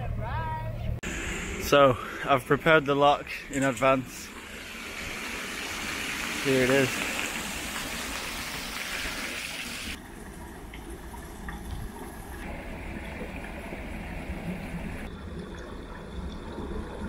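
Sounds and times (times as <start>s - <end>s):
water rushing through lock gates: 1.7s - 15.5s.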